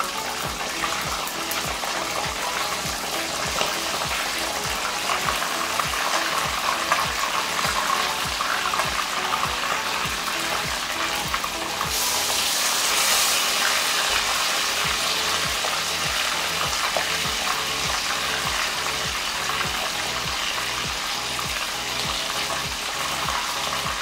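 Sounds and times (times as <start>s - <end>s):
oil sizzling and bubbling: 0.0s - 24.0s.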